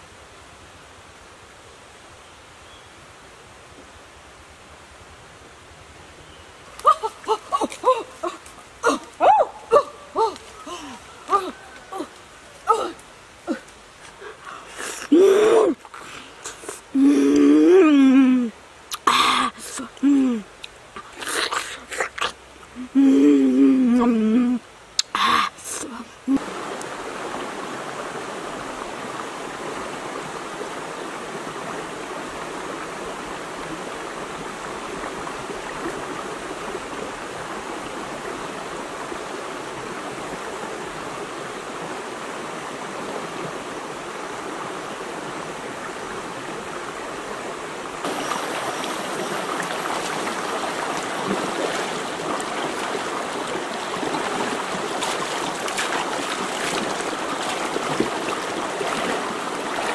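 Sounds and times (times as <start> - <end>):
stream flowing over stones: 6.5 - 59.9.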